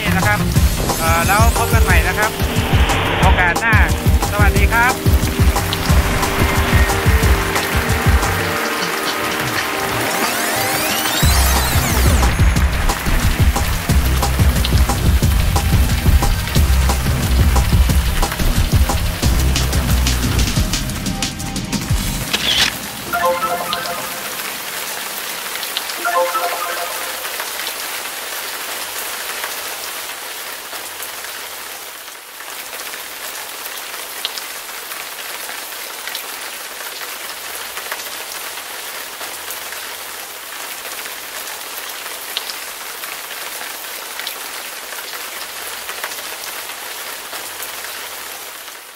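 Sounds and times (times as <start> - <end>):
rain falling on a wet road: 3.7 - 10.6, 11.3 - 20.6, 24.6 - 26.4, 27.4 - 48.9.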